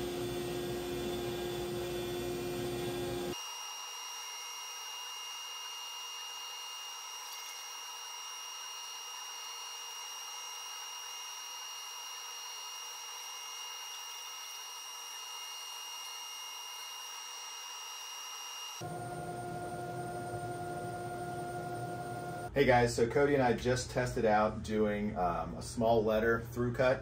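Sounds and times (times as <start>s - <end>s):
cnc router whining: 0.0s - 22.5s.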